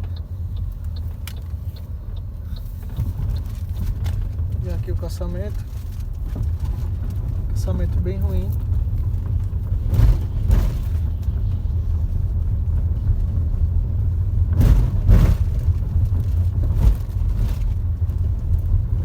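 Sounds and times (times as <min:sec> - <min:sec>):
low road rumble in cabin: 0:00.0 - 0:19.0
wheels thumping over bumps: 0:00.0 - 0:19.0.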